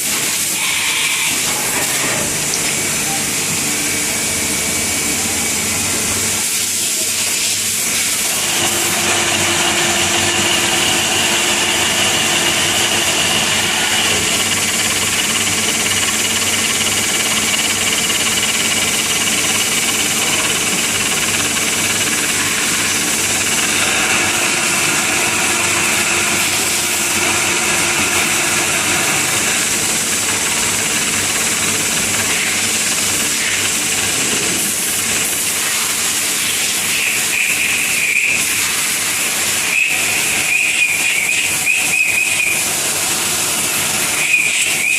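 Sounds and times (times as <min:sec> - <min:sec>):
machine hissing steadily: 0:00.0 - 0:44.9.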